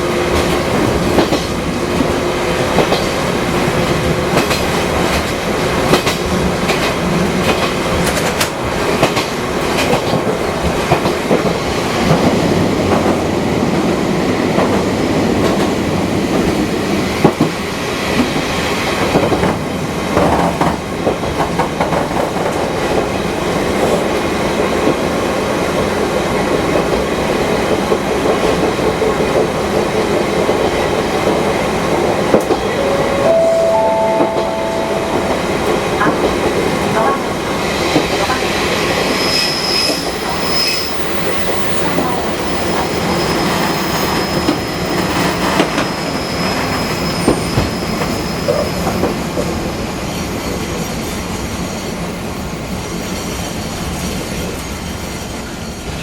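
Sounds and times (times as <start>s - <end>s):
train running noise: 0.0s - 56.0s.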